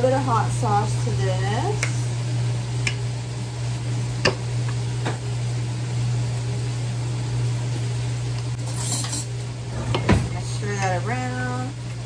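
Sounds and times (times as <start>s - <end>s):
kitchen hum: 0.0s - 12.0s.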